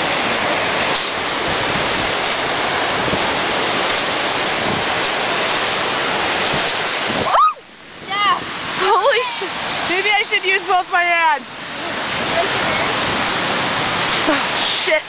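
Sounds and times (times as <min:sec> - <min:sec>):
waterfall and river rapids roaring: 0:00.0 - 0:15.0.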